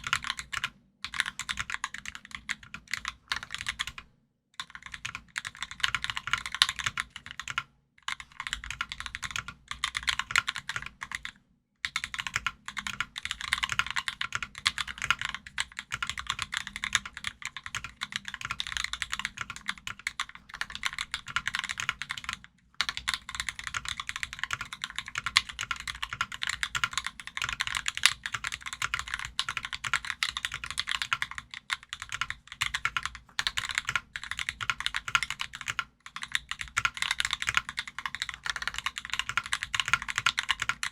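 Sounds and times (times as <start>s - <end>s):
fast typing on mechanical keyboard: 0.0s - 4.0s, 4.6s - 40.9s.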